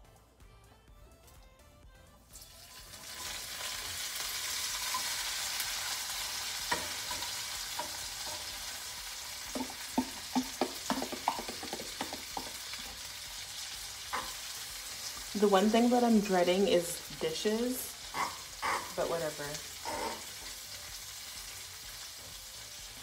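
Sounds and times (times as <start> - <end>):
chicken sizzling in a frying pan: 2.3 - 23.0.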